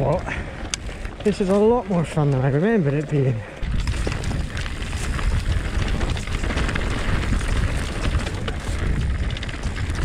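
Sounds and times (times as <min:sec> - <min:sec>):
bike rattles and clicks: 0:00.0 - 0:10.0
tyre noise on dirt trail: 0:00.0 - 0:10.0
wind buffeting microphone: 0:00.0 - 0:10.0.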